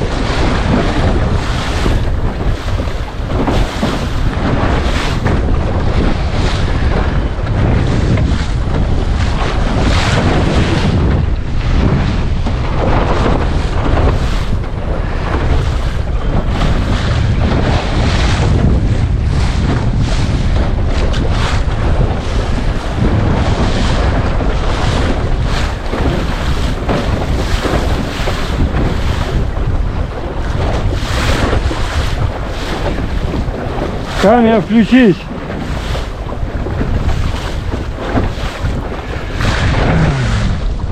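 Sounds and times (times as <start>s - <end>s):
waves splashing against hull: 0.0s - 40.9s
wind buffeting microphone: 0.0s - 40.9s.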